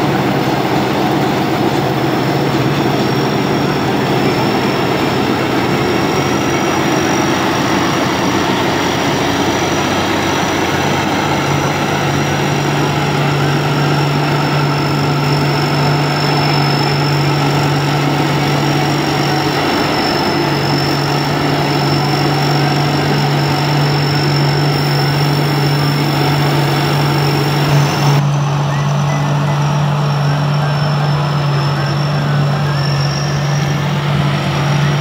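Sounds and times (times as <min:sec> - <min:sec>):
combine harvester engine running: 0:00.0 - 0:35.0
thin high whine: 0:00.0 - 0:35.0.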